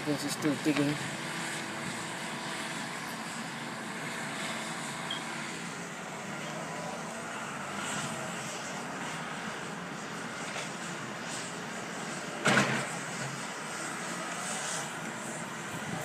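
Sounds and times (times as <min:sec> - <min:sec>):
excavator engine droning: 0:00.0 - 0:16.0.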